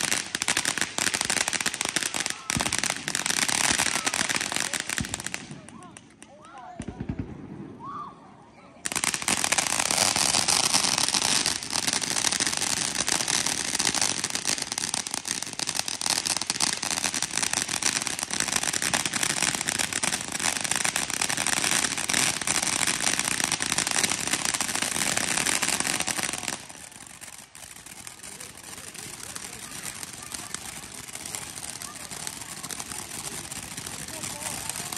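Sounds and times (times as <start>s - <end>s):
fireworks crackling: 0.0s - 34.9s.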